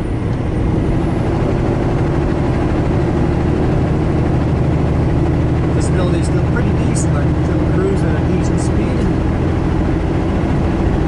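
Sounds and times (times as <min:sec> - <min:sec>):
road noise: 0:00.0 - 0:11.0
truck diesel engine droning: 0:00.0 - 0:11.0.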